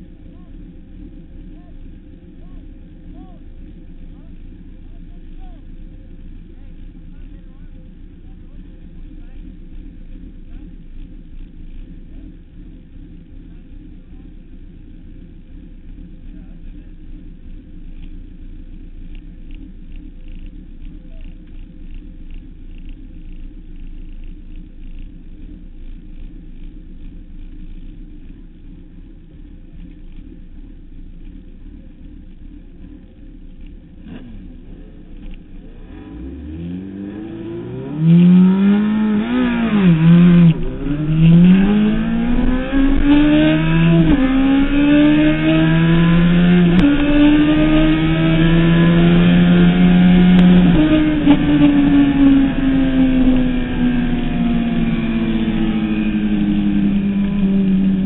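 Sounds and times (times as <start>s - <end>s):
motorcycle engine accelerating through gears: 0.0s - 58.0s.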